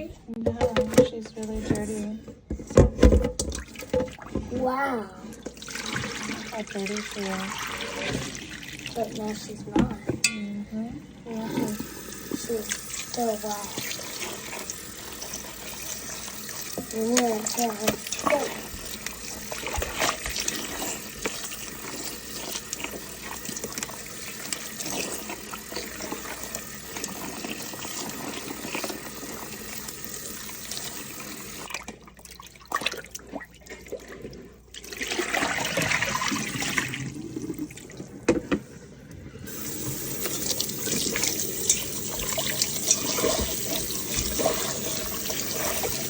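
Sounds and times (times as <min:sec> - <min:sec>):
tap water running into sink: 0:02.7 - 0:10.3, 0:11.3 - 0:34.1, 0:34.7 - 0:38.6, 0:39.5 - 0:46.0.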